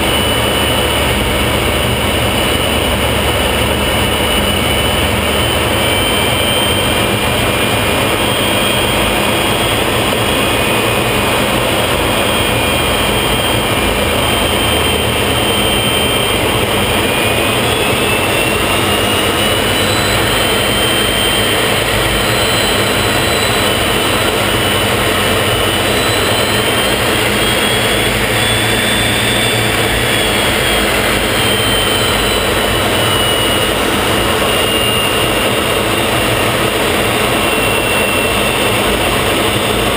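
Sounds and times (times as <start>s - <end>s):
jet engine rush with high whine: 0.0s - 39.9s.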